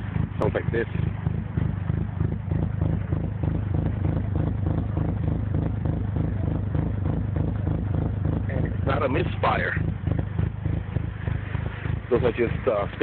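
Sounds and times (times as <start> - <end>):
car engine idling with lope: 0.0 - 13.0.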